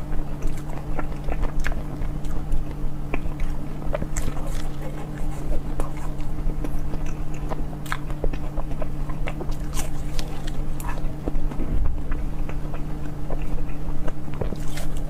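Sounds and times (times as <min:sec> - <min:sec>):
person biting and chewing food: 0:00.0 - 0:15.0
steady low hum: 0:00.0 - 0:15.0.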